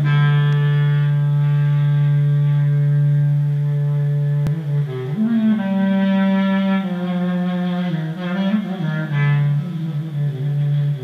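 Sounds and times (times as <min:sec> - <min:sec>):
clarinet solo: 0:00.0 - 0:11.0.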